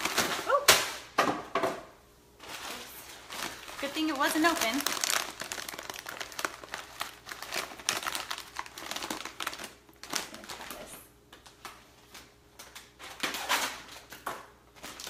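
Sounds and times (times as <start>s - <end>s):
plastic bag crinkling: 2.4s - 15.0s.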